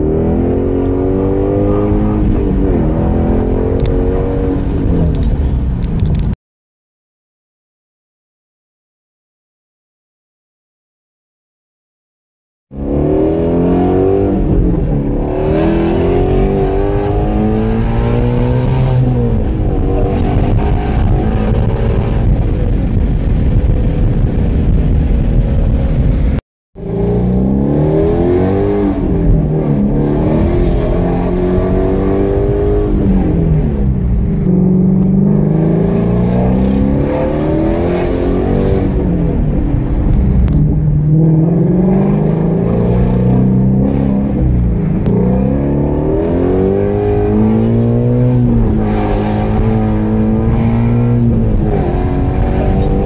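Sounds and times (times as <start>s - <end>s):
car engine accelerating through gears: 0.0s - 6.3s, 12.7s - 53.0s.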